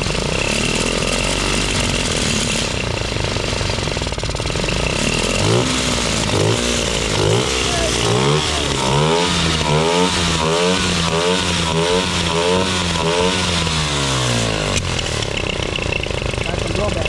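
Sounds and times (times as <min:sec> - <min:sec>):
small two-stroke engine revving: 0:00.0 - 0:17.0.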